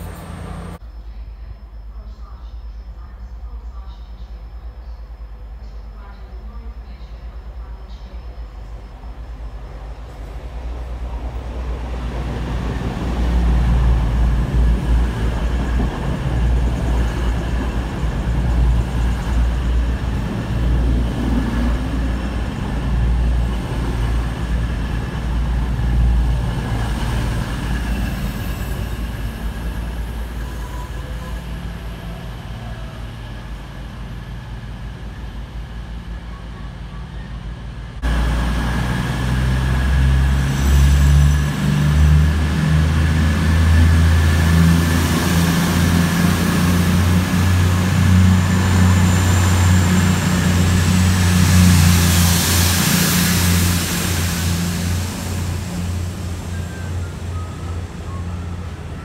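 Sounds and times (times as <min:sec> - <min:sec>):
diesel train passing: 0:00.0 - 0:01.5, 0:02.1 - 0:59.0.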